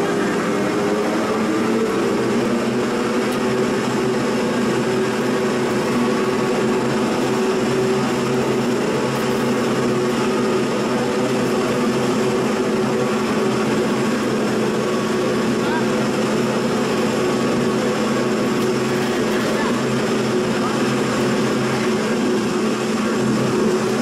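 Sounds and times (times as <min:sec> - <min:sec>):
log crusher motor humming: 0:00.0 - 0:24.0.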